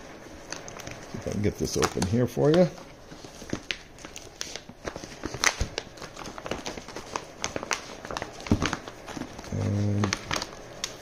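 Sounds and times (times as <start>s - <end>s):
cardboard and plastic crinkling: 0.0s - 11.0s.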